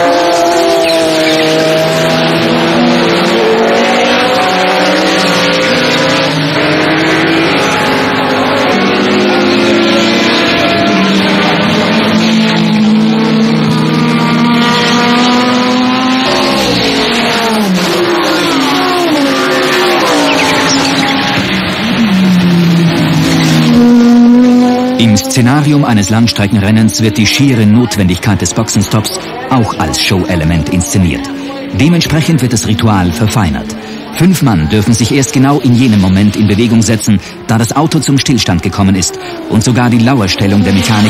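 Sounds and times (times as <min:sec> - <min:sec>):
race car engines passing: 0:00.0 - 0:41.0.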